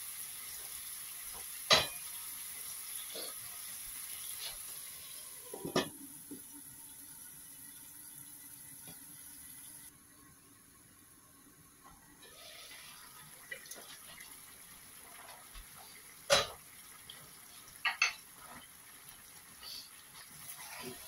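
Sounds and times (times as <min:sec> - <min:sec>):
curry bubbling and sizzling: 0:00.0 - 0:10.8, 0:11.8 - 0:21.0.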